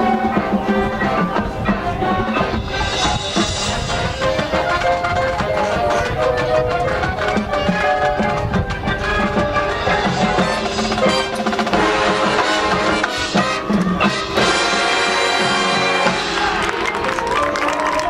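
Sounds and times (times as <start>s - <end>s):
sharp drum strokes: 0.0s - 17.0s
marching band music: 0.0s - 18.0s.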